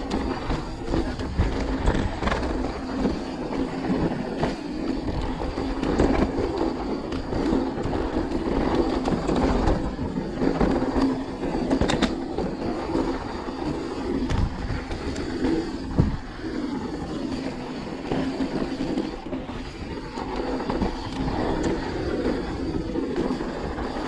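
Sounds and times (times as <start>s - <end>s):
bike rattling: 0.0s - 24.0s
bike tyres rolling over dirt: 0.0s - 24.0s.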